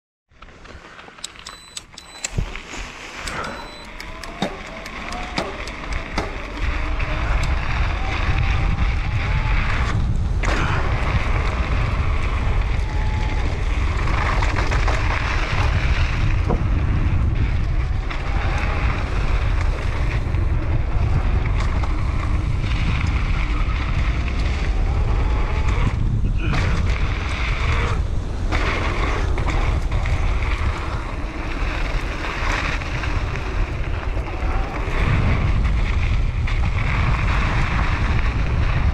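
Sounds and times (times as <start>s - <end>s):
bike clicks and rattles: 0.4s - 38.9s
wind noise on microphone: 1.2s - 38.9s
tyres rolling over dirt: 2.4s - 38.9s.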